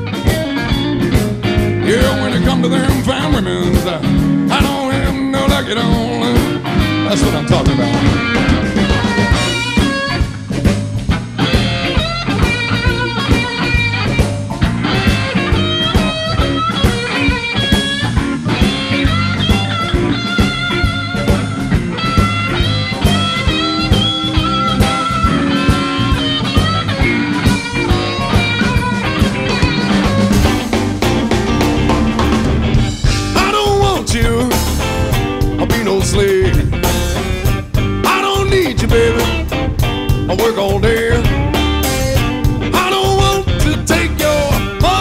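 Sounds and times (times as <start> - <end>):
bass guitar: 0.0 - 45.0
drum beat: 0.0 - 45.0
lead guitar bending notes: 0.0 - 45.0.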